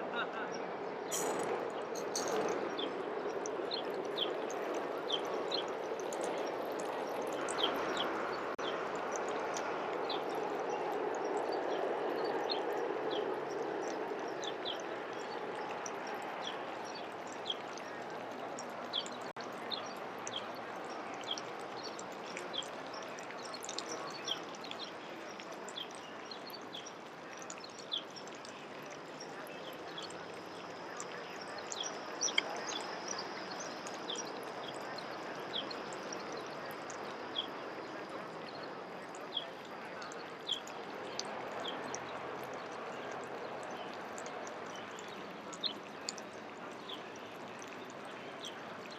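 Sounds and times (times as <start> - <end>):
outdoor background noise: 0.0 - 48.9
small birds chirping: 0.2 - 48.9.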